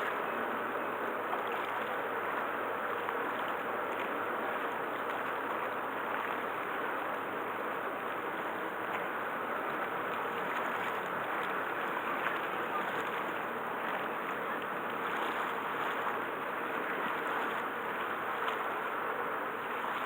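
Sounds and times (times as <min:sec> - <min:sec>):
sea water rushing: 0:00.0 - 0:20.0
wind: 0:00.0 - 0:20.0.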